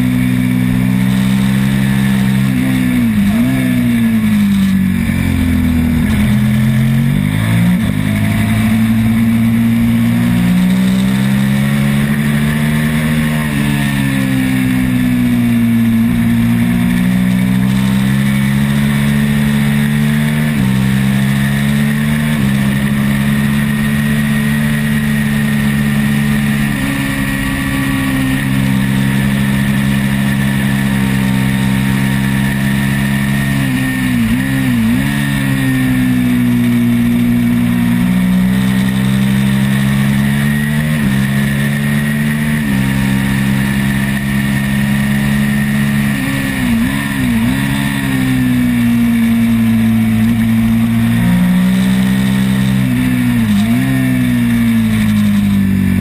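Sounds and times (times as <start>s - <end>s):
racing motorcycle engine: 0.0s - 56.0s.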